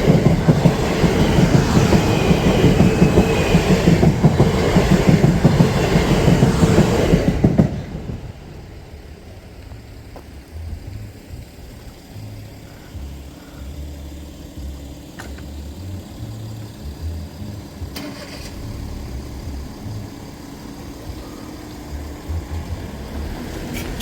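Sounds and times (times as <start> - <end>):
engine running at low revs: 0.0 - 24.0.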